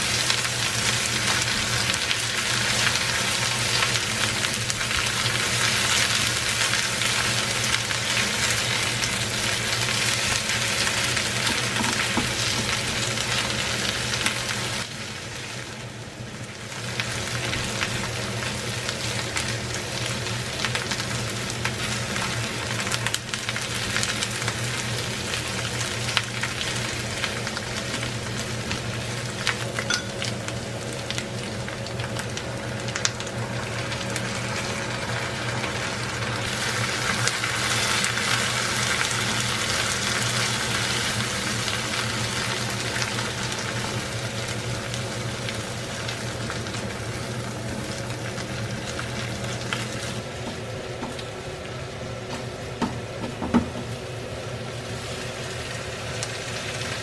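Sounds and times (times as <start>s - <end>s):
food sizzling in frying pan: 0.0s - 57.0s.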